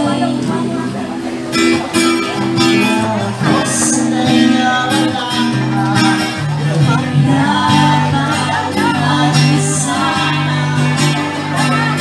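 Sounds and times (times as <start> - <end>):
person singing: 0.0 - 1.3, 2.4 - 12.0
held bass notes: 0.0 - 12.0.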